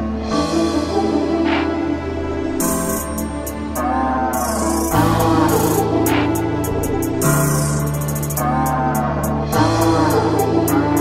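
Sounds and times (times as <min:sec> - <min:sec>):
keyboard chords: 0:00.0 - 0:11.0
sustained bass notes: 0:00.0 - 0:11.0.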